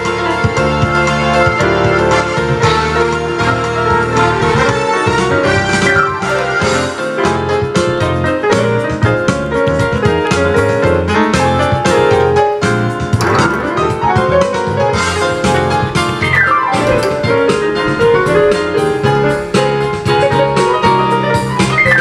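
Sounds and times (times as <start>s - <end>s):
keyboard piano chords: 0.0s - 22.0s.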